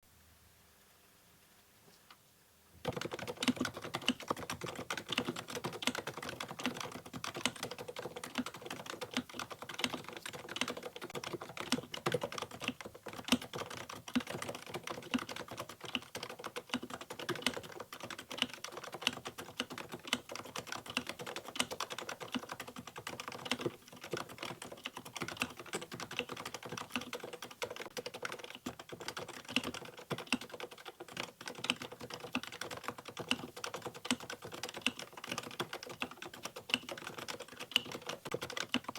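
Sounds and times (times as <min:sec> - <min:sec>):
keyboard typing: 0:02.8 - 0:38.9.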